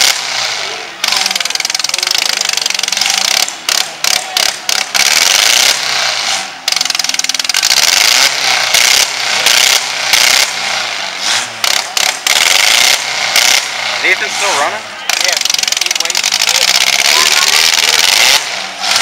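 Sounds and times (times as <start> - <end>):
car engines rasping: 0.0 - 19.0.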